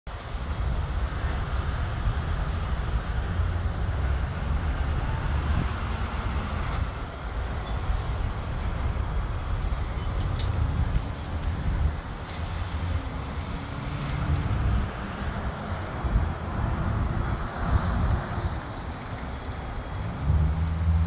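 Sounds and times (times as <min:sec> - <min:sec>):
outdoor rumble and hiss: 0:00.1 - 0:21.0
wind buffeting microphone: 0:00.2 - 0:21.0.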